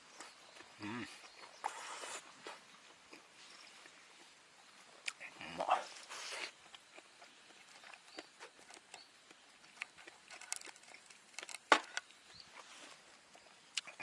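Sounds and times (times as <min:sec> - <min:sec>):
person chewing: 0:00.1 - 0:14.0.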